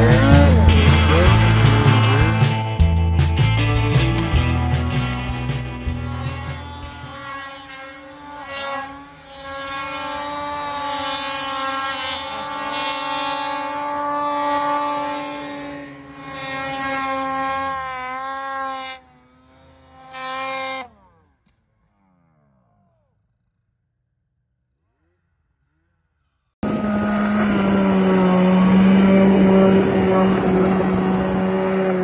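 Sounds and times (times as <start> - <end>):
snowmobile engine whining: 0.0 - 23.5, 24.6 - 32.0.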